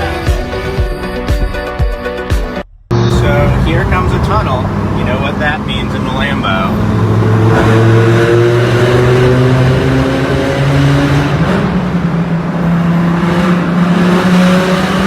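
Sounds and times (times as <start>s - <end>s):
loud car engine revving in tunnel: 2.9s - 15.0s.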